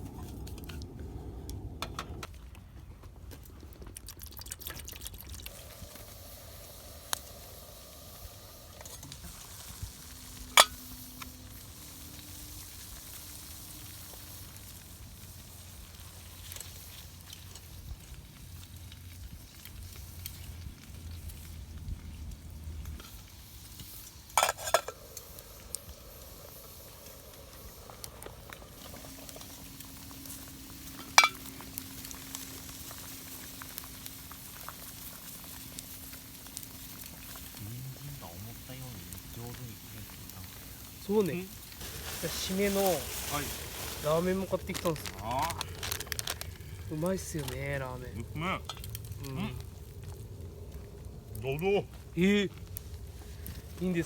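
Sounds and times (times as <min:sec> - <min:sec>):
food sizzling in a pan: 0:05.5 - 0:49.6.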